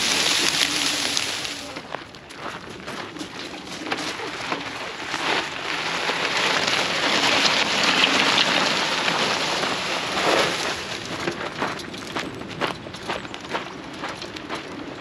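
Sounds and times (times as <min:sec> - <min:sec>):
tyres rolling over rough ground: 0:00.0 - 0:15.0.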